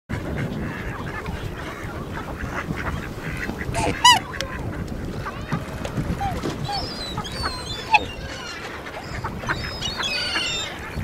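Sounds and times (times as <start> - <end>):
swans calling: 0.4 - 11.0.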